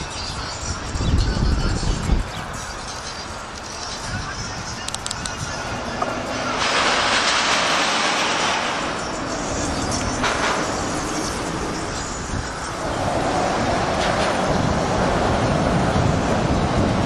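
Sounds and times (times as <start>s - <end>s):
outdoor traffic noise: 0.0s - 17.0s.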